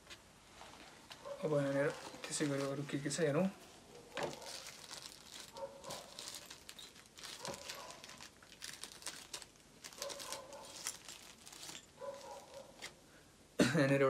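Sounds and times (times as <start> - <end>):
plastic packaging crinkling: 1.1 - 12.9.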